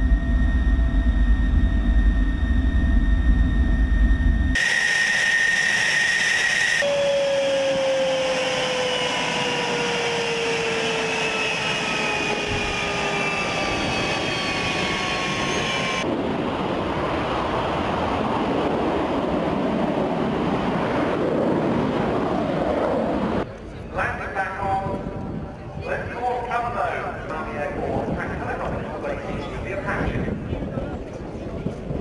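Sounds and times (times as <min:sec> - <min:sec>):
jet engine whining down: 0:00.0 - 0:32.0.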